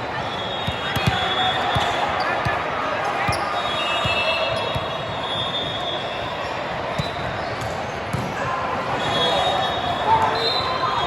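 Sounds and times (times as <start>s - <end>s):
crowd and court noise: 0.0s - 11.0s.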